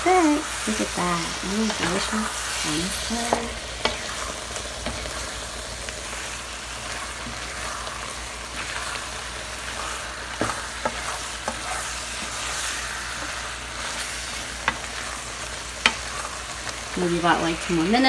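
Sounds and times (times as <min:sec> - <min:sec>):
steady sizzle: 0:00.0 - 0:18.0.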